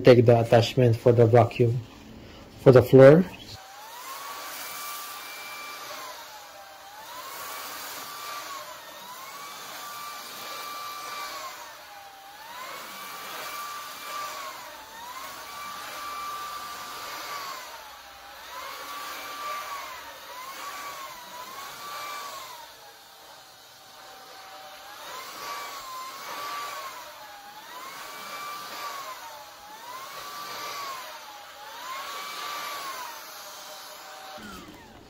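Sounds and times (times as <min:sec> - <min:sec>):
vacuum motor whine: 0:03.6 - 0:35.0.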